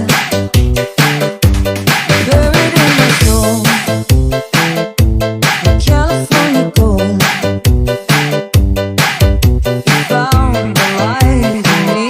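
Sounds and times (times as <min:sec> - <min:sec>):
bass line: 0:00.0 - 0:12.0
steady drum beat: 0:00.0 - 0:12.0.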